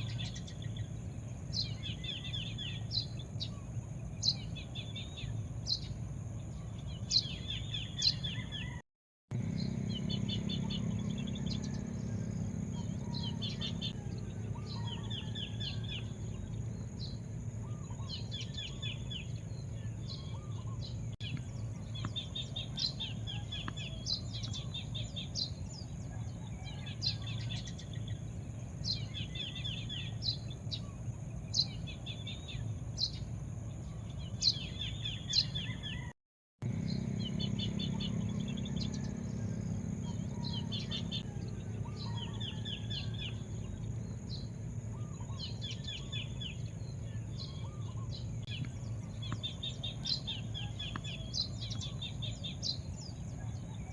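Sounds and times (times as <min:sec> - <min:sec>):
birds chirping and trilling: 0:00.0 - 0:53.9
low outdoor rumble: 0:00.0 - 0:53.9.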